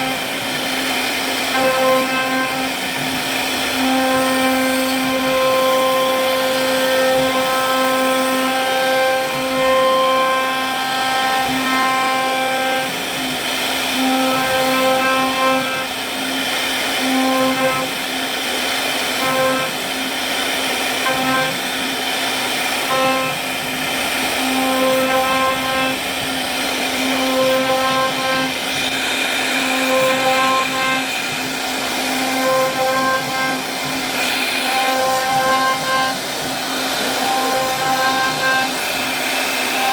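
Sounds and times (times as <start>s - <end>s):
router spindle whining: 0.0s - 39.9s
rushing noise of wood carving: 0.0s - 39.9s.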